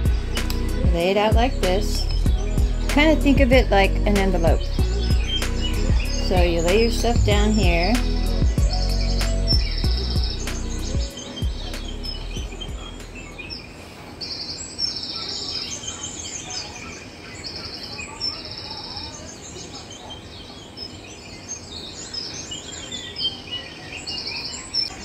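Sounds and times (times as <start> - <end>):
buzzy bird trills: 0.0 - 25.0
small birds chirping: 0.0 - 25.0.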